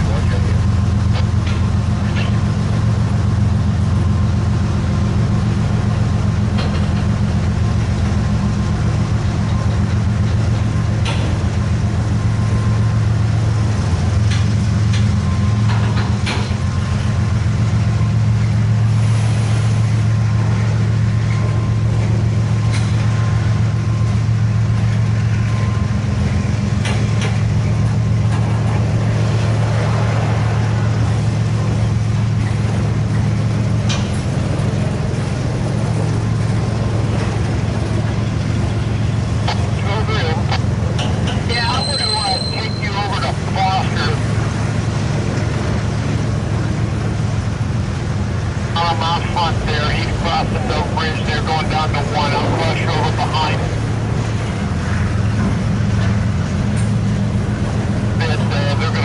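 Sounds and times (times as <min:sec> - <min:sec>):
large engine idling: 0:00.0 - 0:59.0.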